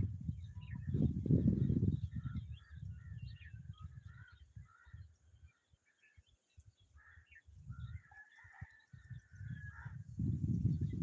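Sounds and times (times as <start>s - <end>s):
bird chirps and calls: 0.2s - 11.0s.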